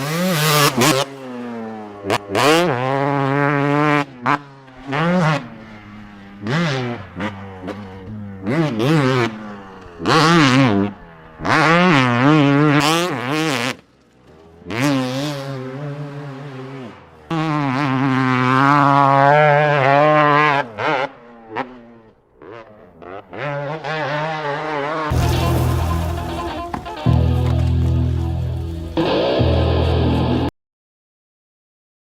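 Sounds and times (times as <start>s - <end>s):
dirt bike engine revving: 0.0s - 30.5s.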